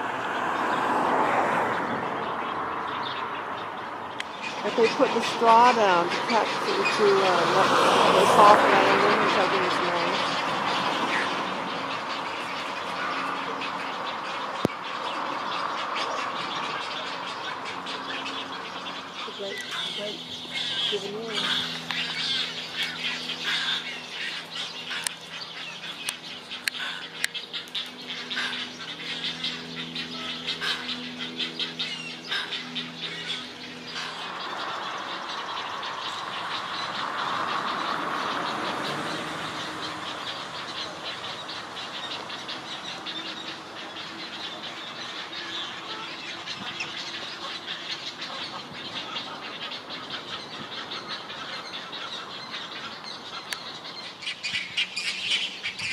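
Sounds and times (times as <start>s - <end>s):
birds squawking: 0.0s - 55.9s.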